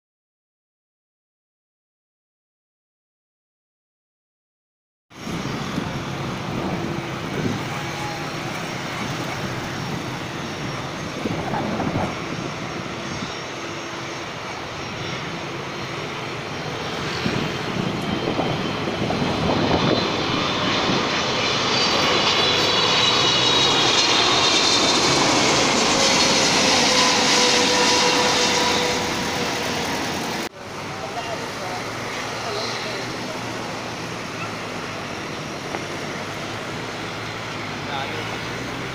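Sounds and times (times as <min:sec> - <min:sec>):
jet airliner engines approaching: 0:05.1 - 0:38.9
high engine whine: 0:05.2 - 0:38.9.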